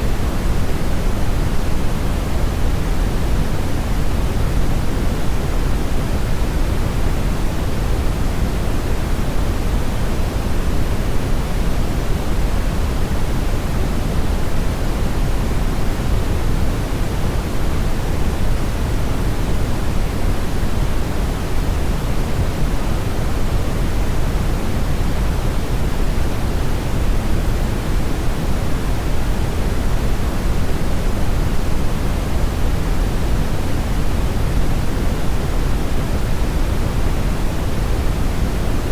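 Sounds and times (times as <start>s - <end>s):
loud static noise: 0.0s - 38.9s.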